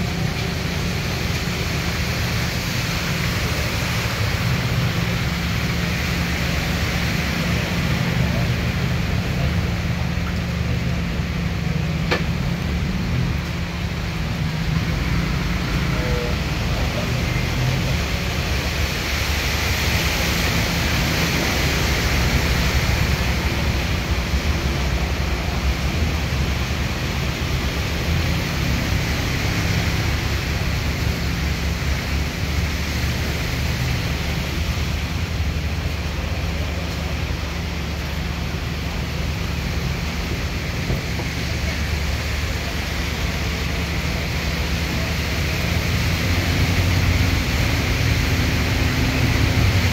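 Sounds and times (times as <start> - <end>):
floodwater rushing: 0.0 - 49.9
motorbikes wading through water: 0.0 - 49.9.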